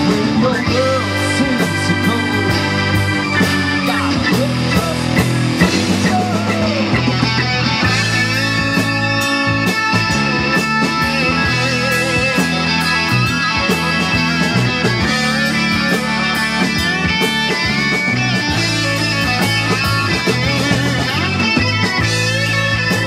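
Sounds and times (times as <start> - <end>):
bass: 0.0 - 23.0
drums: 0.0 - 23.0
electric guitar lead: 0.0 - 23.0.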